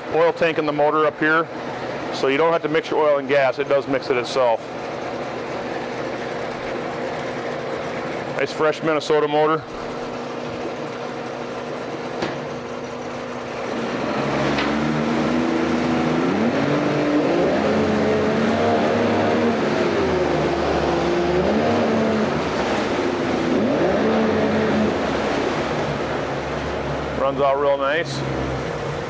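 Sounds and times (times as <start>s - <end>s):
outboard motor idling and revving: 0.0s - 29.0s.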